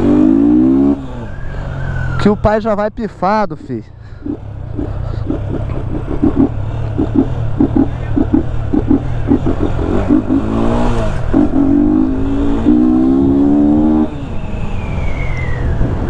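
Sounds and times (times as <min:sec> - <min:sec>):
motorcycle engine revving: 0:00.0 - 0:02.5, 0:04.1 - 0:16.0.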